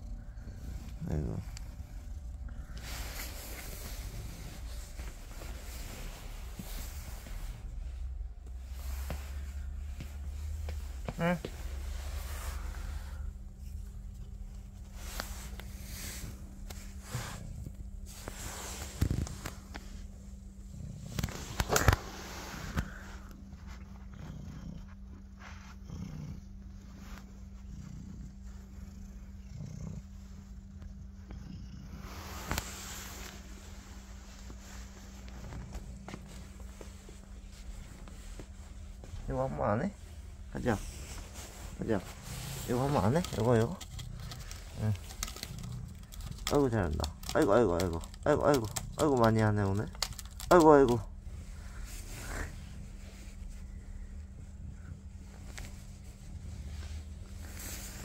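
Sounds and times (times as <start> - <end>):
cat purring: 0.0 - 58.0
steady low hum: 0.0 - 58.0.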